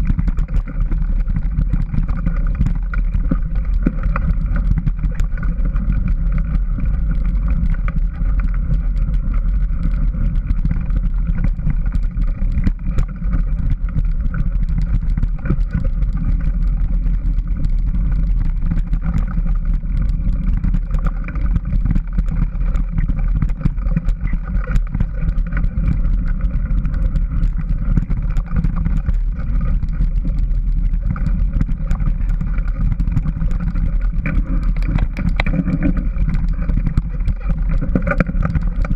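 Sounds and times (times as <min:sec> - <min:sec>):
clicks and knocks from bumps: 0:00.0 - 0:38.9
vehicle ride noise: 0:00.0 - 0:38.9.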